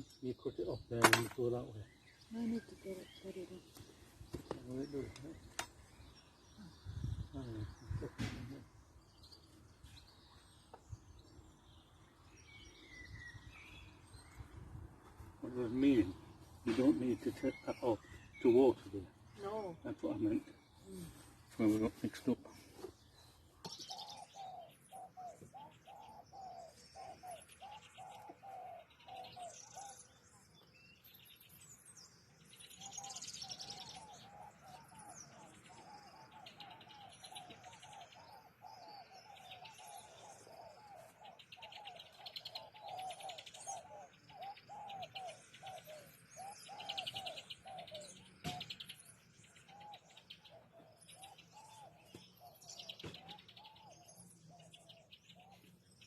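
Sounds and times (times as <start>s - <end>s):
bird chirps and trills: 0.0s - 56.0s.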